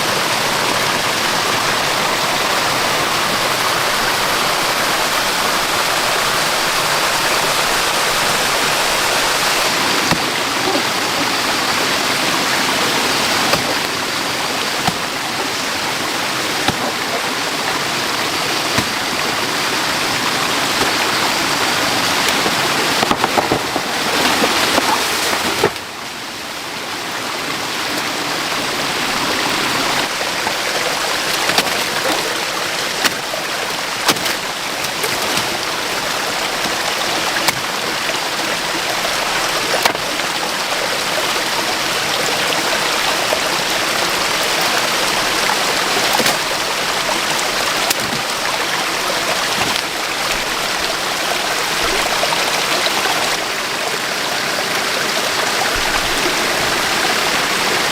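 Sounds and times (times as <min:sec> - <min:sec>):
stream rushing: 0:00.0 - 0:57.9.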